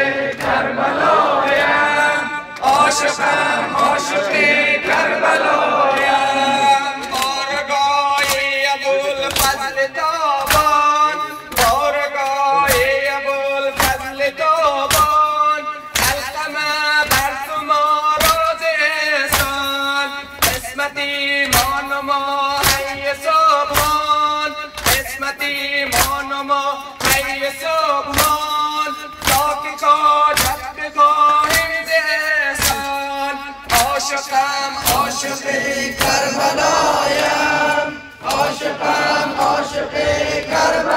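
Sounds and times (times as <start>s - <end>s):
sharp rhythmic strikes: 0.0s - 40.9s
man chanting through microphone: 1.8s - 4.8s, 5.8s - 39.9s.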